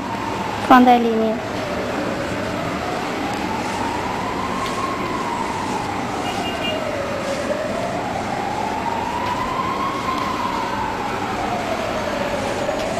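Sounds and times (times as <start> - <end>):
emergency siren wailing: 0.0 - 12.9.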